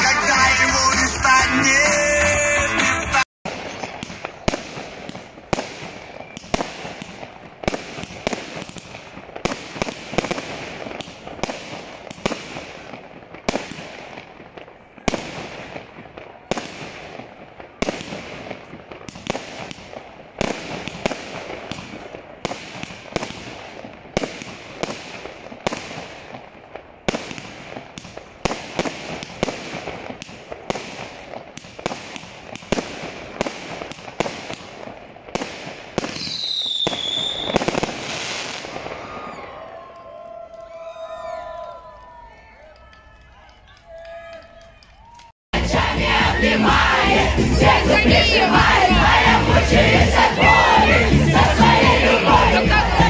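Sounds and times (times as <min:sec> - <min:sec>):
fireworks bangs echoing: 0:03.5 - 0:41.7, 0:45.6 - 0:53.0.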